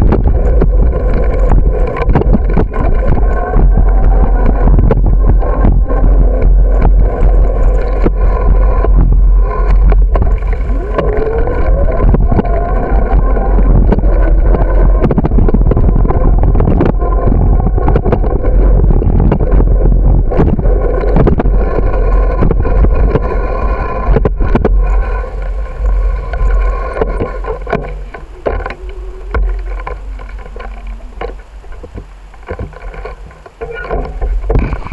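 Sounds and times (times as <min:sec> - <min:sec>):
bicycle tyres rumbling on pavement: 0:00.0 - 0:34.9
wind buffeting microphone: 0:00.0 - 0:34.9.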